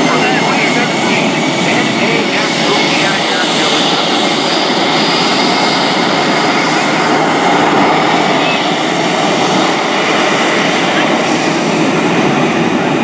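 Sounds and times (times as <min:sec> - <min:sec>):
jet engines at taxi power: 0:00.0 - 0:13.0.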